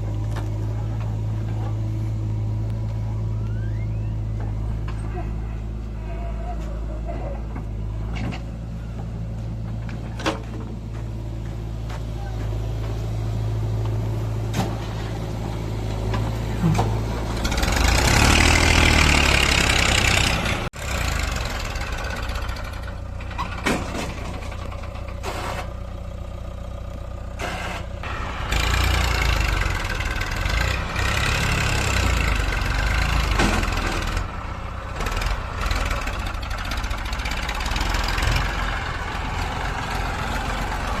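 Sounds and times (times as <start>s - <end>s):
diesel engine idling and revving: 0.0s - 41.0s.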